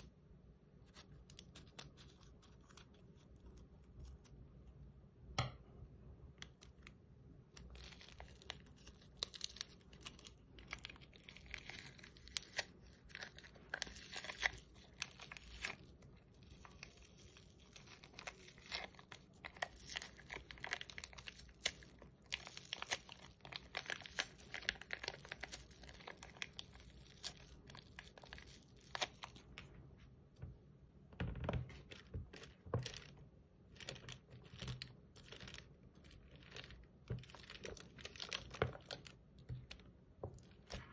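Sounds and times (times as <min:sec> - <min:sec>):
hands squishing slime: 0:06.3 - 0:29.7, 0:31.2 - 0:40.9.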